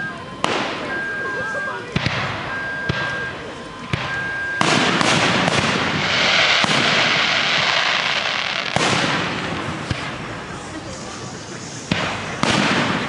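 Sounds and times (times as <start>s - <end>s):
fireworks crackling: 0.4s - 13.0s.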